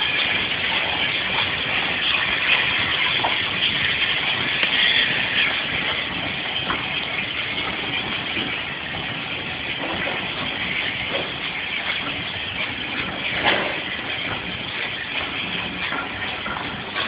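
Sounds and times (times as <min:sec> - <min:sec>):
steam rushing and hissing: 0:00.0 - 0:17.0
train rumbling on track: 0:00.0 - 0:17.0.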